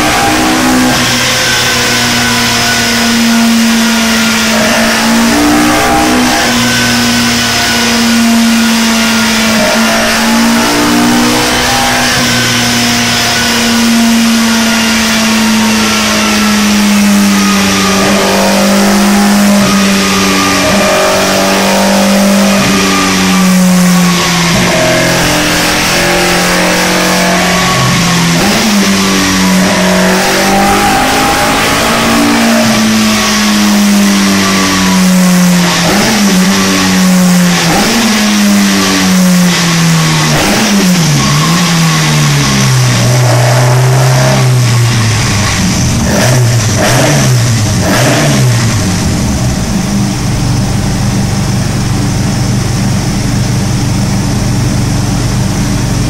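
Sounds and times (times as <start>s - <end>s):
race car engine revving loud: 0.0s - 56.0s.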